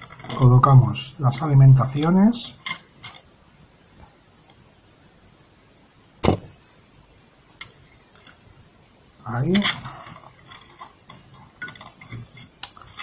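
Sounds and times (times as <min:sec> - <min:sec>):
low room noise: 0:00.0 - 0:13.0.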